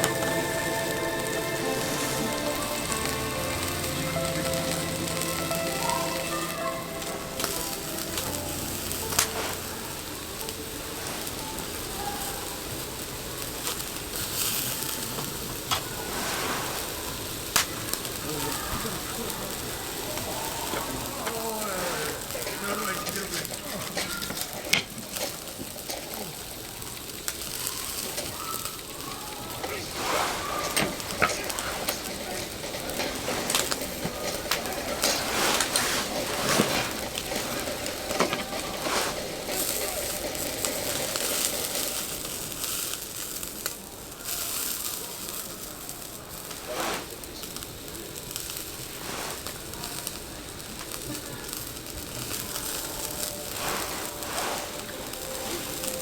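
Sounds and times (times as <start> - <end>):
utensils clicking and scraping: 0.0 - 12.2, 13.6 - 43.0, 48.6 - 56.0
food sizzling in a pan: 0.0 - 56.0.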